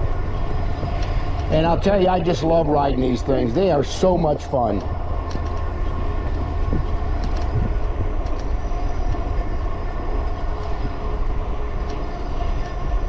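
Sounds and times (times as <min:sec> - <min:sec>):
wind rumble on microphone: 0:00.0 - 0:04.1, 0:04.8 - 0:13.0
faint steady whine: 0:00.0 - 0:13.0.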